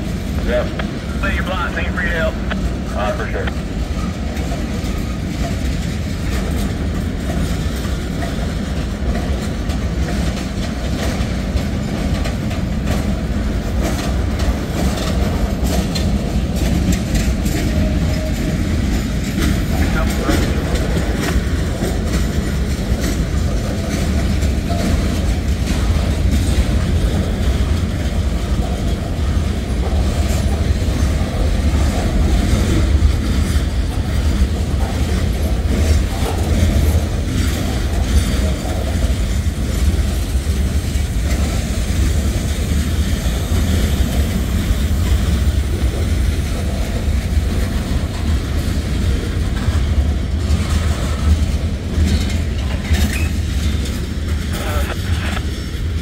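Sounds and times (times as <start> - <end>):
freight train rumble: 0.0 - 56.0
wheels clicking over rail joints: 4.0 - 54.5.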